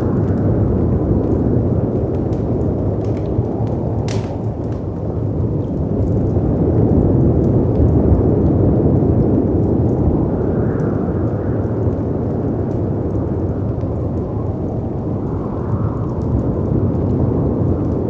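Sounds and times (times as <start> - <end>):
fireplace crackling and popping: 0.0 - 18.0
wind rumbling: 0.0 - 18.0.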